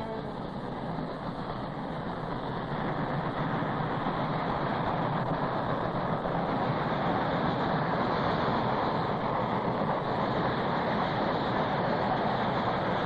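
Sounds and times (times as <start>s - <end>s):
steam locomotive and train passing: 0.0s - 13.0s.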